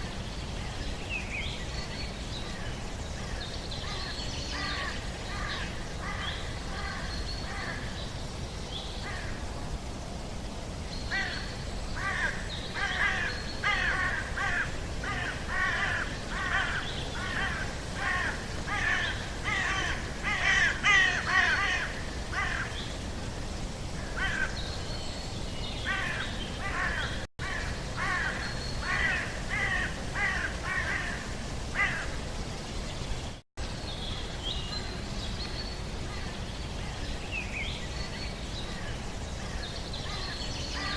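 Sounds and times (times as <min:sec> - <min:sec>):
birds calling rapidly: 0:00.0 - 0:09.5, 0:10.8 - 0:32.3, 0:32.9 - 0:40.9
low background noise: 0:00.0 - 0:40.9.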